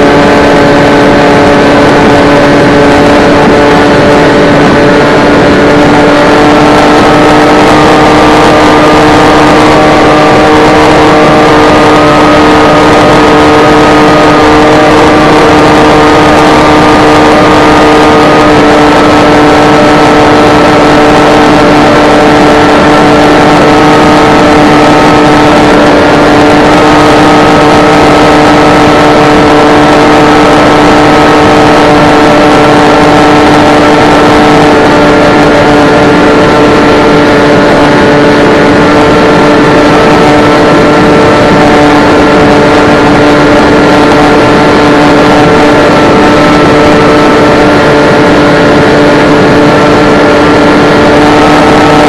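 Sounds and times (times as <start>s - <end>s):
electric motor and propeller drone: 0.0s - 52.0s
wind noise: 0.0s - 52.0s.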